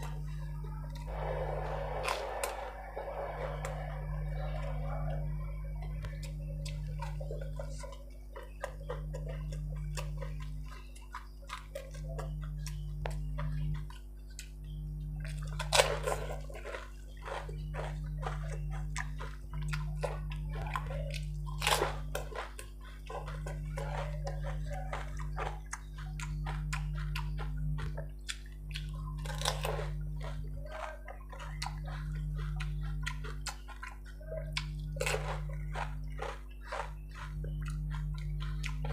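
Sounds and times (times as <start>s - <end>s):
crunching in the mouth: 0.0s - 38.9s
low hum: 0.0s - 38.9s.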